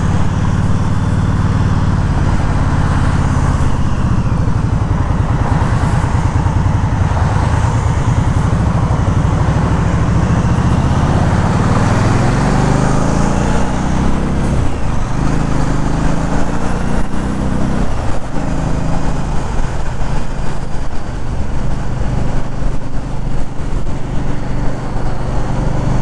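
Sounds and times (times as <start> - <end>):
motorcycle engine droning: 0.0 - 26.0
wind noise on microphone: 0.0 - 26.0.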